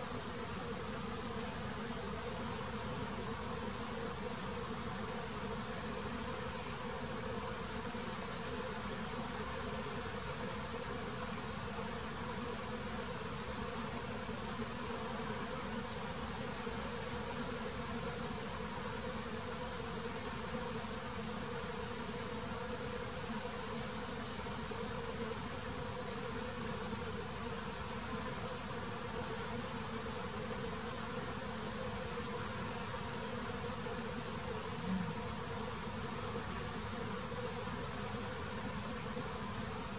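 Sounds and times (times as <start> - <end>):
honeybees buzzing: 0.1 - 39.9.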